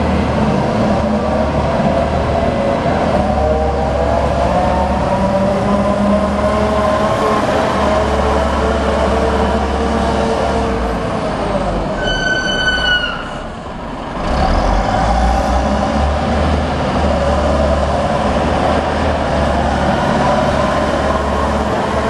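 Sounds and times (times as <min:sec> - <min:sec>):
wheel loader diesel engine: 0:00.0 - 0:22.0.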